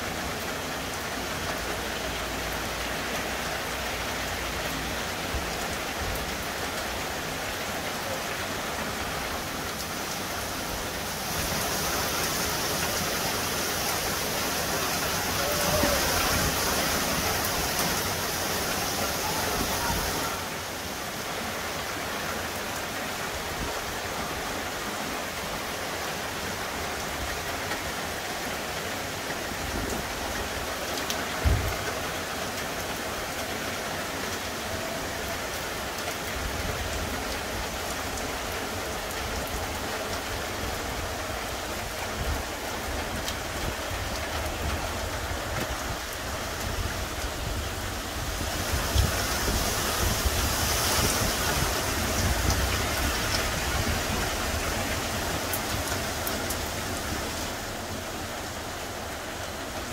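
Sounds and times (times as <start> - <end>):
heavy rain on asphalt and trees: 0.0 - 59.9.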